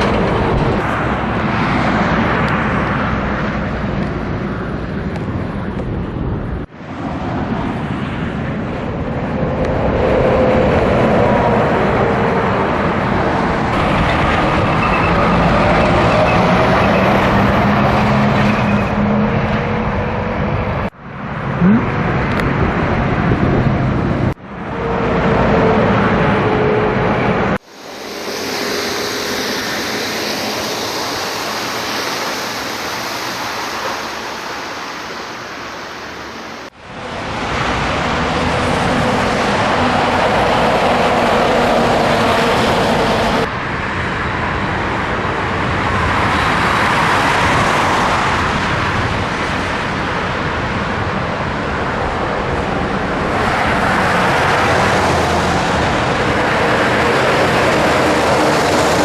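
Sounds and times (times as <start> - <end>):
tyres and wind rushing: 0.0 - 59.0.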